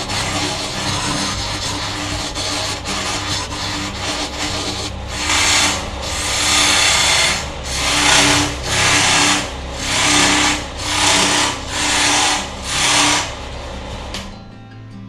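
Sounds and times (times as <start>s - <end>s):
turning tool cutting wood hiss: 0.0s - 13.4s
wood lathe humming: 0.0s - 14.3s.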